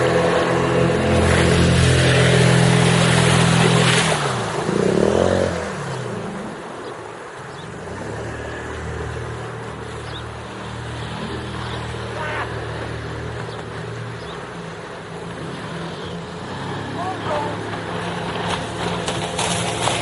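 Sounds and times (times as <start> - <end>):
outboard motor boat passing: 0.0 - 20.0.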